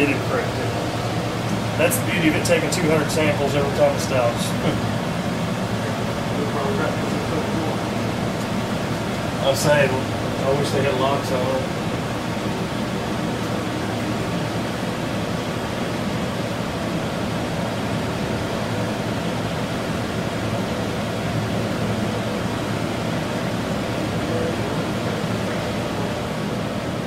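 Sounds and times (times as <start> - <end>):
fan running with airy rush: 0.0 - 27.0.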